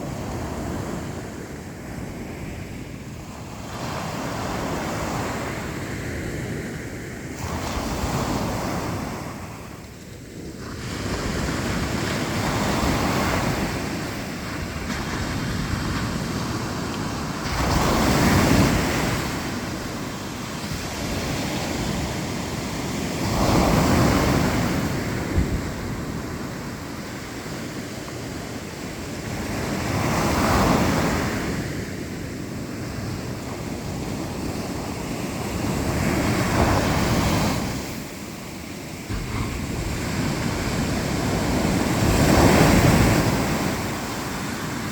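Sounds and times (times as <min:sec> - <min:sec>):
waves breaking on shore: 0:00.0 - 0:44.9
wind on microphone: 0:00.0 - 0:44.9.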